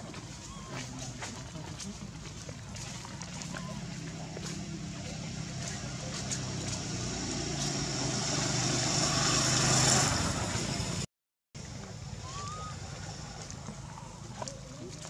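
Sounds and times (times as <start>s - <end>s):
vehicle engine approaching: 0.0s - 15.0s.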